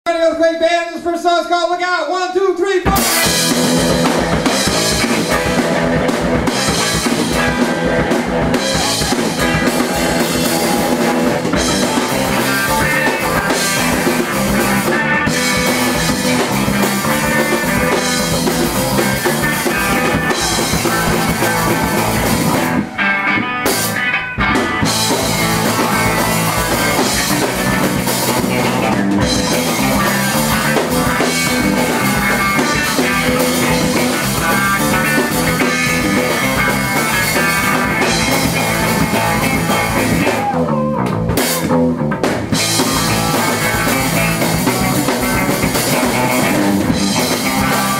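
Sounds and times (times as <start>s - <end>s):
punk rock band playing: 2.8s - 47.9s.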